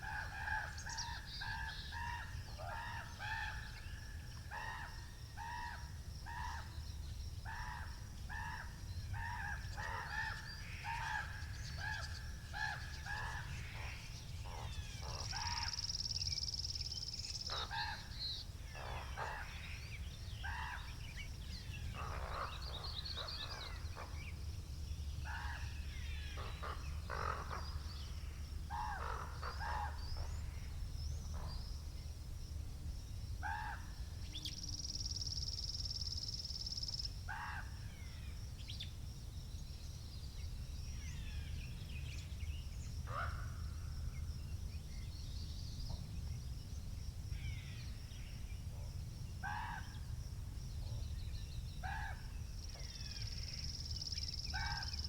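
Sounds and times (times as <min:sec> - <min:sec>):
low rumble of wind: 0:00.0 - 0:55.0.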